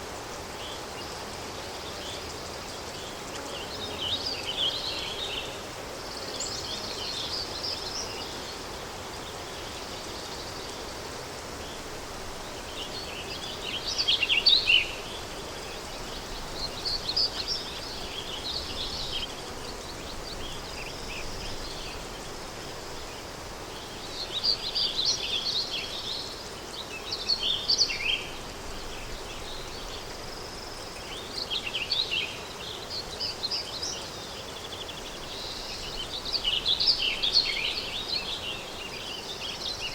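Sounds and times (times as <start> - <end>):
songbirds singing: 0.0 - 39.9
wind: 0.0 - 39.9.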